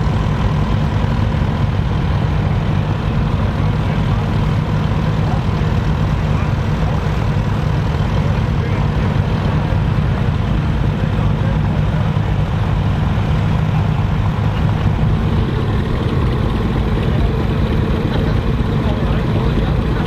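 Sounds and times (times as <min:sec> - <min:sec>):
tractor engines idling: 0:00.0 - 0:20.0.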